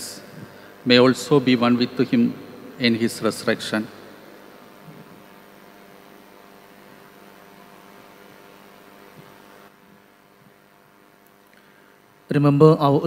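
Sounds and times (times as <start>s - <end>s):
electrical mains hum with hiss: 0.0s - 13.0s.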